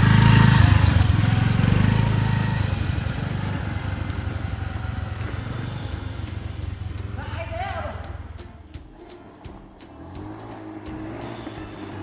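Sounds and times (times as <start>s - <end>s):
small engine puttering: 0.0s - 12.0s.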